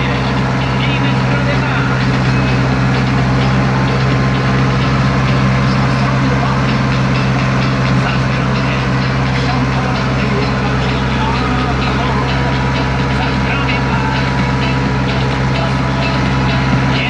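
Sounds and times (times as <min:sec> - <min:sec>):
tractor engine running steadily: 0:00.0 - 0:17.0.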